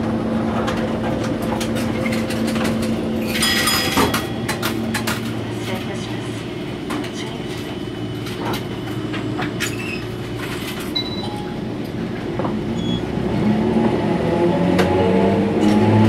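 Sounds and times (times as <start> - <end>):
tram running rumble: 0.0 - 16.0.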